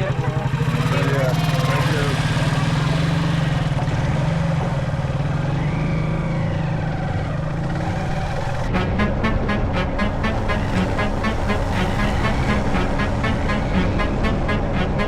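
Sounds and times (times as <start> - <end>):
motorcycle engine running: 0.0 - 5.9, 6.9 - 15.0
road and wind noise: 0.0 - 15.0.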